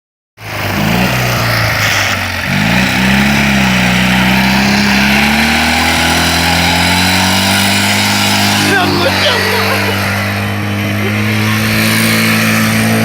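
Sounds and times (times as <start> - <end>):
motorcycle engine revving: 0.4 - 13.0.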